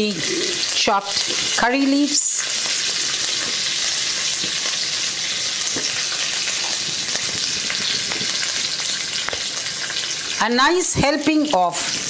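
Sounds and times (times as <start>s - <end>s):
hot oil sizzling: 0.0s - 12.0s
seeds crackling and popping: 0.5s - 10.4s.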